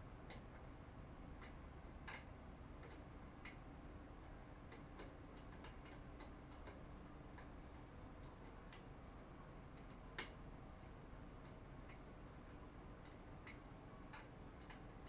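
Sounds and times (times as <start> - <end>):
faint light clicks and ticks: 0.2 - 15.0.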